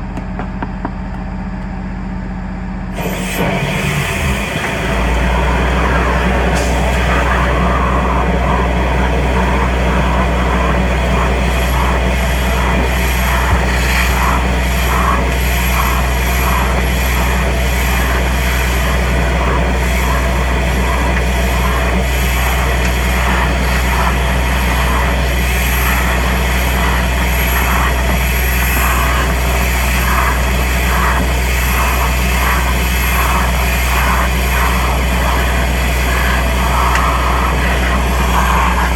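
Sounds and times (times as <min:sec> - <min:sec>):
vacuum excavator running: 0:00.0 - 0:38.9.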